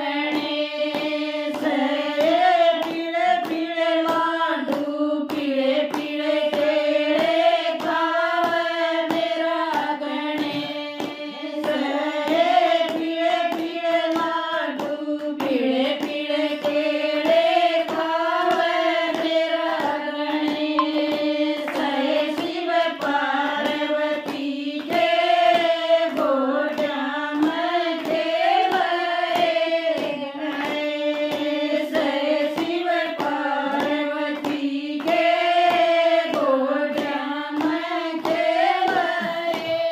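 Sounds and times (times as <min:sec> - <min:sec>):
women singing together: 0:00.0 - 0:39.9
hand claps: 0:00.2 - 0:39.9.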